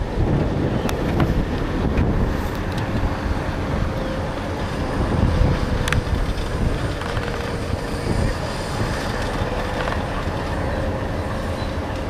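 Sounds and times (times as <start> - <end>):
freight train rolling past: 0.0 - 12.0
wind buffeting microphone: 0.0 - 12.0.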